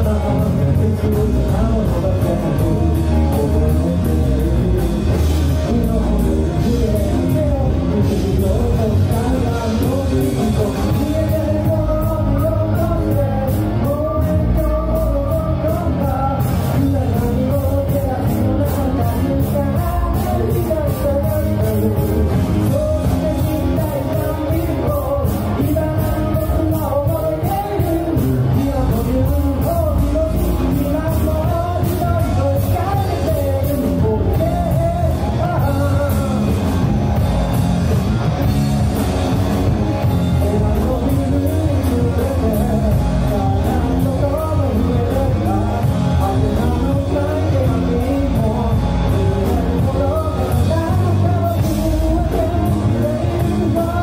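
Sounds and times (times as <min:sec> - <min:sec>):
drum kit beat: 0:00.0 - 0:54.0
electric bass: 0:00.0 - 0:54.0
electric guitars: 0:00.0 - 0:54.0
man singing lead vocals: 0:00.0 - 0:54.0.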